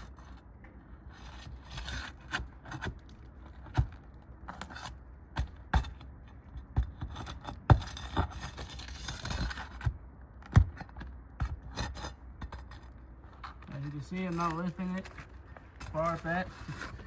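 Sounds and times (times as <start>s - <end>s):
tools scraping shingles: 1.0s - 17.0s.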